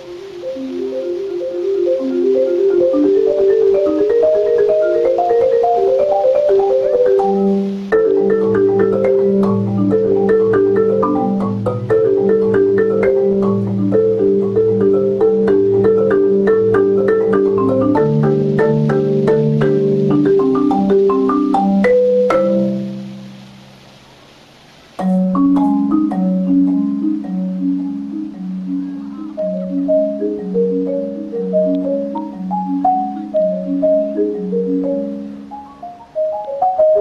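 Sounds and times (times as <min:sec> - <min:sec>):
melody of struck notes: 0:00.0 - 0:23.6, 0:25.0 - 0:37.0.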